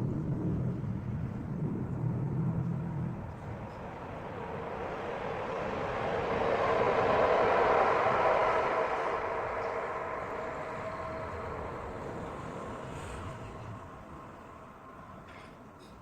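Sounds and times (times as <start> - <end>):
something passing by: 1.1 - 15.0.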